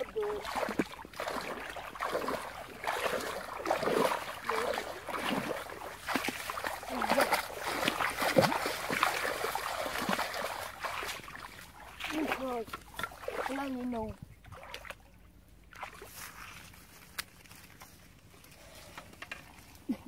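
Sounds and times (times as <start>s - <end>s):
wading through muddy water: 0.0s - 20.0s.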